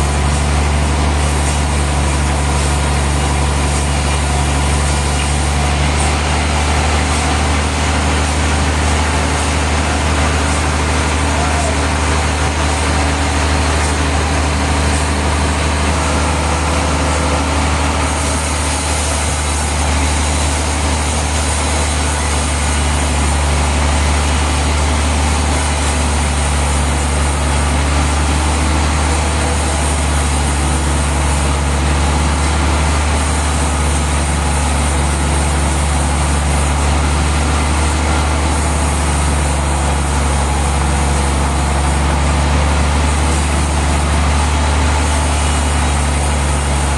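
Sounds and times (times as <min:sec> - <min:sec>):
sawmill machinery humming: 0:00.0 - 0:46.9.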